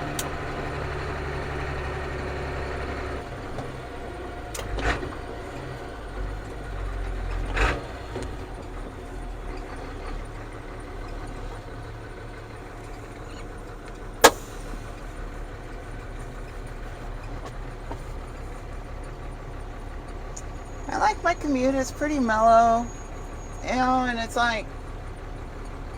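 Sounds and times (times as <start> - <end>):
diesel engine droning: 0.0 - 25.9.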